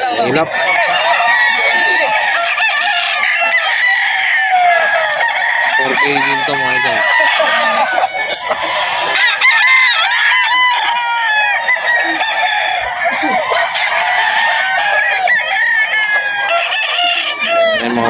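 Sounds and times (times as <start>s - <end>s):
roosters crowing: 0.0s - 18.0s.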